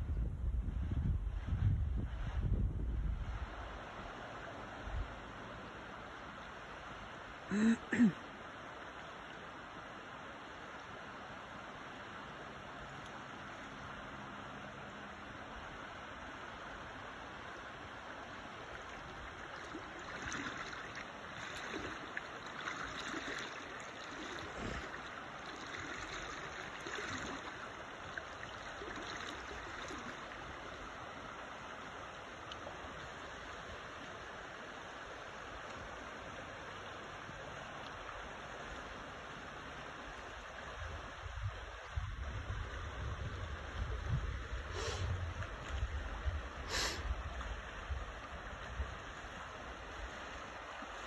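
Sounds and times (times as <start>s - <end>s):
river water flowing: 2.9s - 51.0s.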